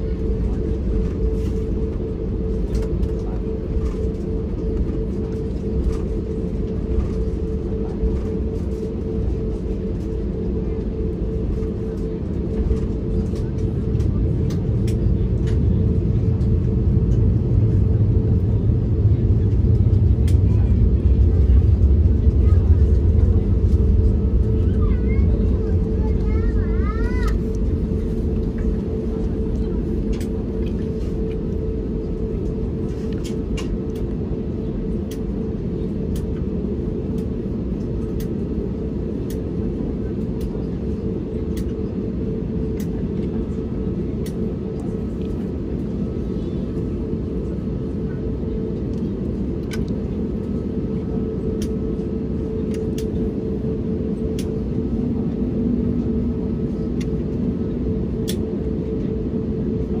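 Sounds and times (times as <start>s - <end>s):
aircraft cabin rumble: 0.0s - 60.0s
steady hum: 0.0s - 60.0s.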